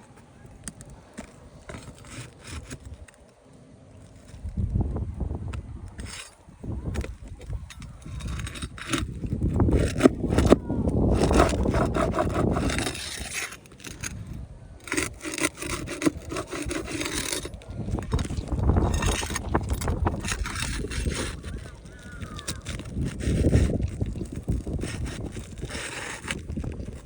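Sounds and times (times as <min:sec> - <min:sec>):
scraping and rubbing: 0:00.0 - 0:03.3, 0:05.5 - 0:27.0
wind rumble on microphone: 0:04.2 - 0:27.0.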